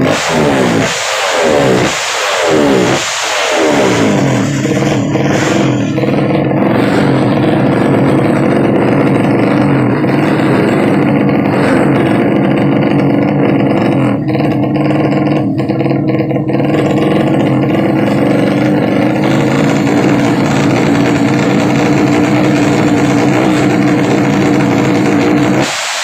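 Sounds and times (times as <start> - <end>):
motorbike engine at high revs: 0.0 - 26.0.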